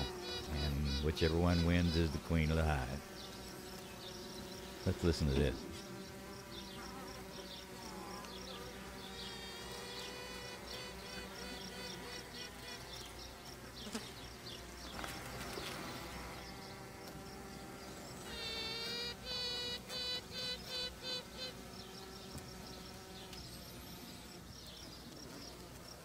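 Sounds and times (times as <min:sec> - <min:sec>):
bees humming: 0:00.0 - 0:26.0
queen bee piping: 0:00.0 - 0:26.0.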